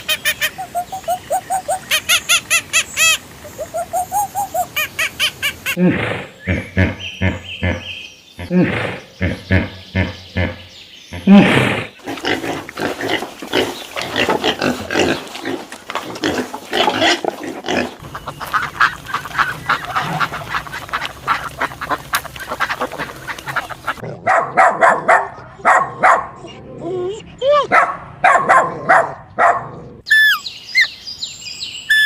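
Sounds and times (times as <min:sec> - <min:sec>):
farm animals calling: 0:00.0 - 0:05.8, 0:06.4 - 0:24.0, 0:25.0 - 0:31.0.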